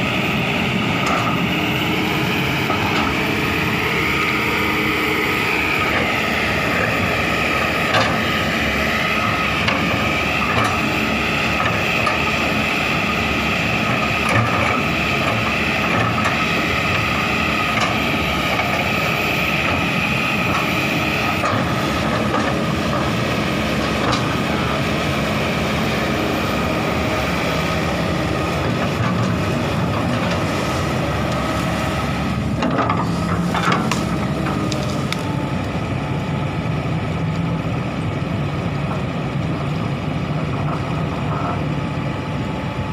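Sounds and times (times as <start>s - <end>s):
high whine: 0.0s - 38.5s
excavator diesel engine running: 0.0s - 42.9s.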